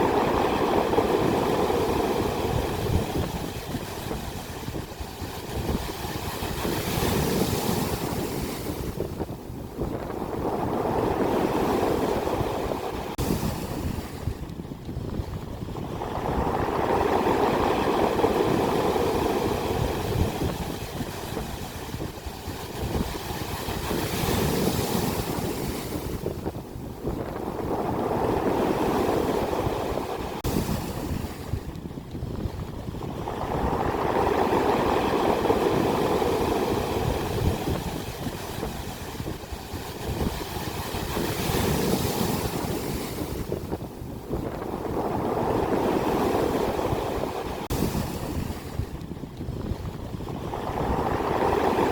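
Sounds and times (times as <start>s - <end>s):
ocean waves breaking on shore: 0.0s - 51.9s.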